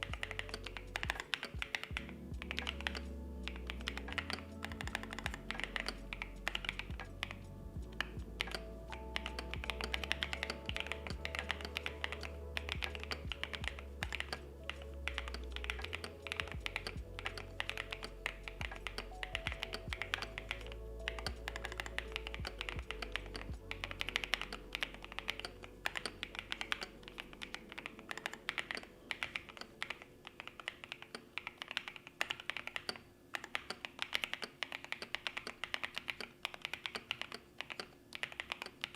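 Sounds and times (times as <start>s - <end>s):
background music: 0.0s - 31.4s
mechanical keyboard typing: 0.0s - 38.9s.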